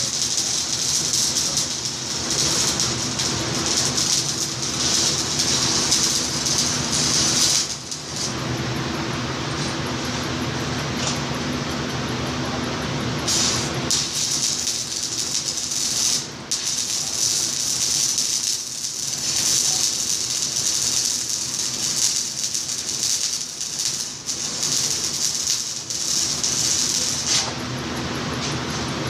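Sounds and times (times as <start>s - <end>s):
welding arc crackling and sizzling: 0.0s - 29.0s.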